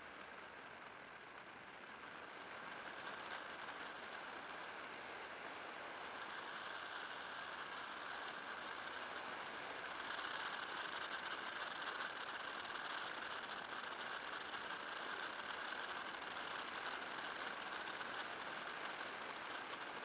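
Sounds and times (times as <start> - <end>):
electric motor hiss and whine: 0.0 - 20.0.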